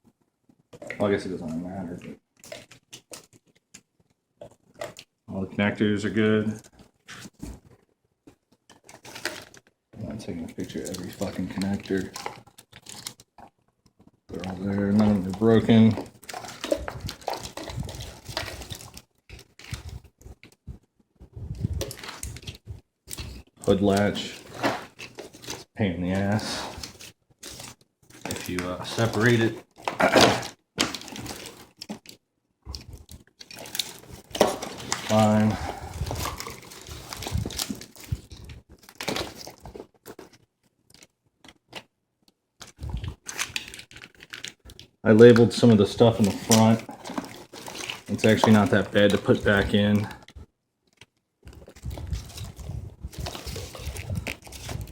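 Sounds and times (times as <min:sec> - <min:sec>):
wiring rustling and clicking: 0:00.0 - 0:05.2, 0:06.4 - 0:54.9.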